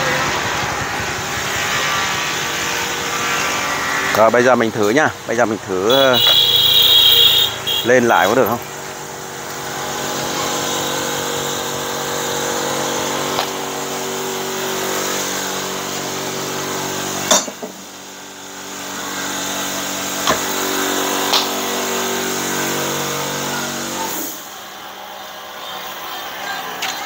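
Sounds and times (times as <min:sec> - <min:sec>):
car motor running: 0:00.0 - 0:24.5.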